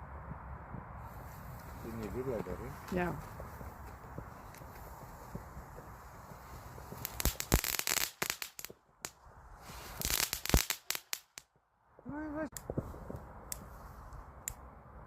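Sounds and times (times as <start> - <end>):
firecracker bangs and crackle: 0.3 - 11.5, 12.5 - 13.8.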